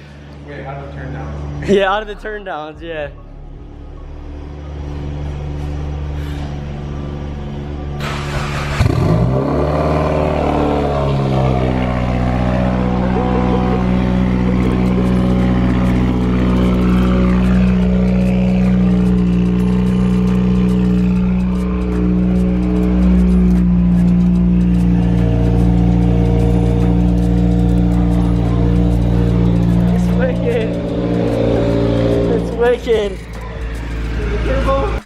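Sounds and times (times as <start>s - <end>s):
car engine starting and idling: 0.0s - 35.0s.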